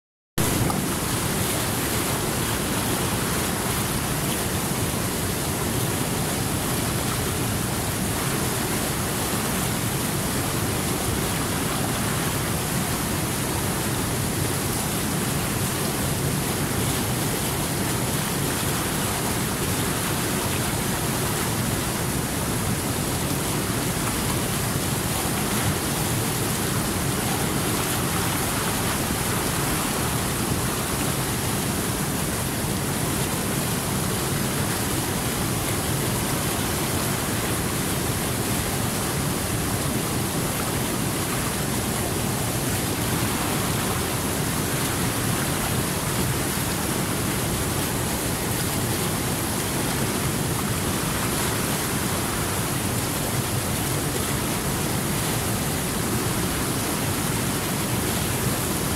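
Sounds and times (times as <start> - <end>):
river rapids rushing: 0.4 - 58.9.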